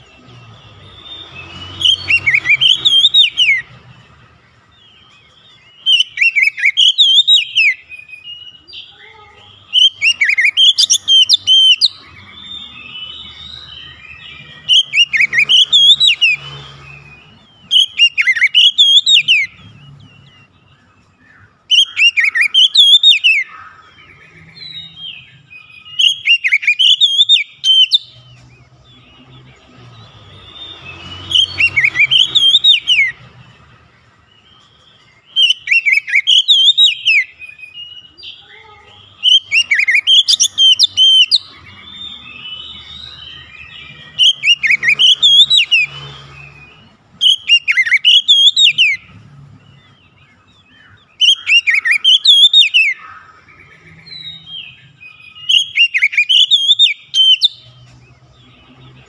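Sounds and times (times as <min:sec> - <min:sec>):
soft bird chirping: 0:00.0 - 0:59.0
bird singing whistled phrases: 0:00.1 - 0:03.8, 0:05.5 - 0:28.2, 0:30.1 - 0:33.2, 0:34.5 - 0:49.1, 0:49.8 - 0:57.8.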